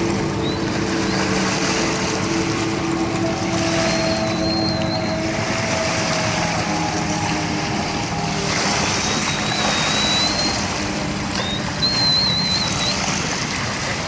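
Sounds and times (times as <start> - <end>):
jet ski engine drone: 0.0 - 14.0
water and wind noise: 0.0 - 14.0
high wavering whistle: 0.2 - 13.4.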